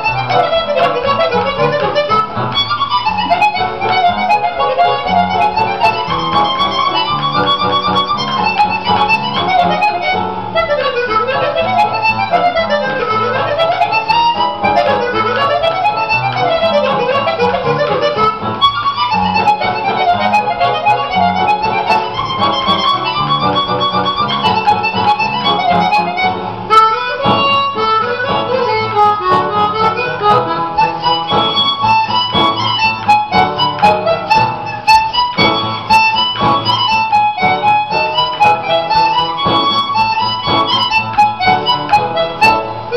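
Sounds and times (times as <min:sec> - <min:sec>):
harmonica melody: 0:00.0 - 0:42.9.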